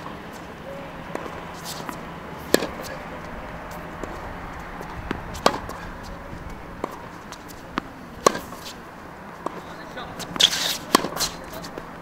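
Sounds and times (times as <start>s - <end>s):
racket striking tennis ball: 0.0s - 4.2s, 4.8s - 11.9s
tennis ball bouncing: 0.0s - 12.0s.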